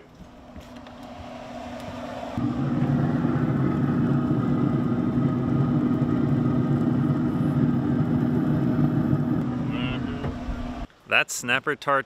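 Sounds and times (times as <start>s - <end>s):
boat engine running: 0.0s - 10.9s.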